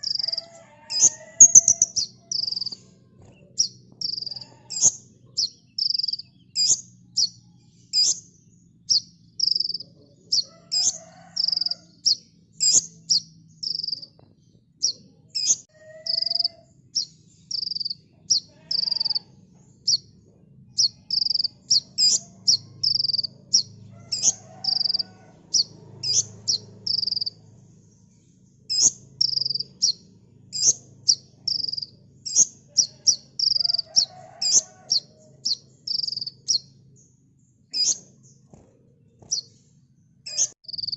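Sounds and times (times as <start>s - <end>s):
bird chirping and whistling: 0.0s - 2.8s, 3.6s - 14.1s, 14.8s - 19.2s, 20.8s - 27.3s, 28.7s - 36.7s, 37.7s - 38.1s, 40.3s - 40.9s
faint low hum: 0.0s - 40.9s.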